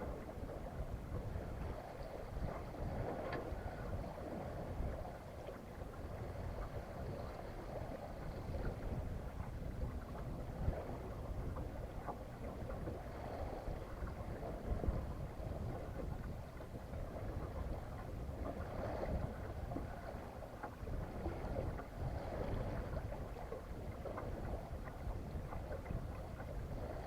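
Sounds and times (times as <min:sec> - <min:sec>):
water washing along a hull: 0:00.0 - 0:27.0
wind rumbling on microphone: 0:00.0 - 0:27.0.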